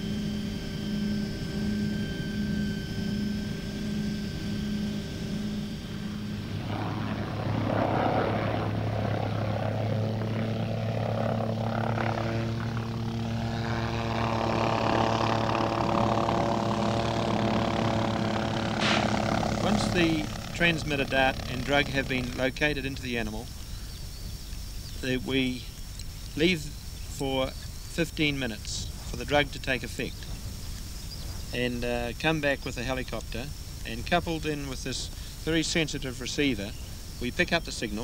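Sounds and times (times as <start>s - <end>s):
helicopter rotor and engine drone: 0.0s - 38.0s.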